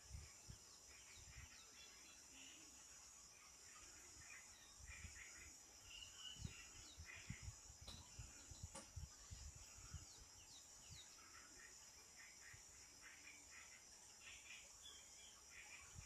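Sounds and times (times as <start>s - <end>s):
bird chirps: 0.0s - 16.0s
high insect drone: 0.0s - 16.0s.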